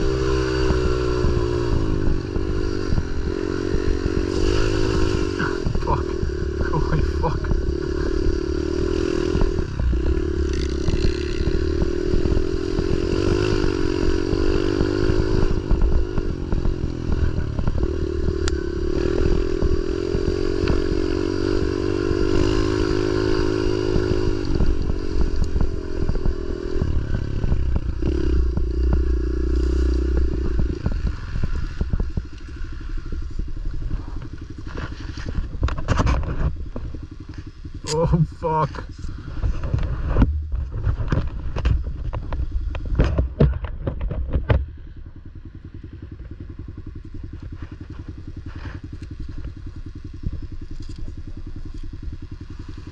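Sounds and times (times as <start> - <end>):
pit bike engine under throttle: 0.0 - 52.9.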